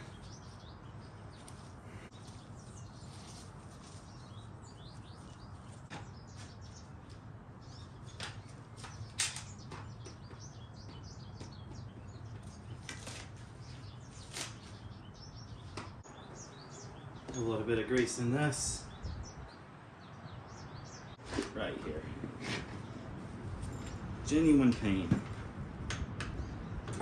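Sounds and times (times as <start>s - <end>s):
small birds chirping: 0.0s - 25.4s.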